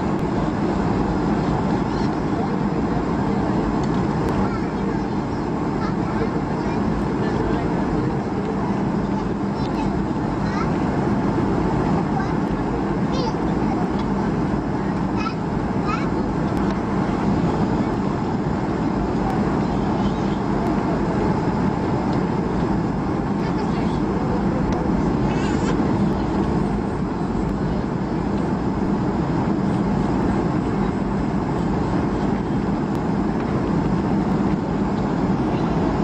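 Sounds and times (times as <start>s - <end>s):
constant low hum: 0.0s - 36.0s
jet engine and airflow noise: 0.0s - 36.0s.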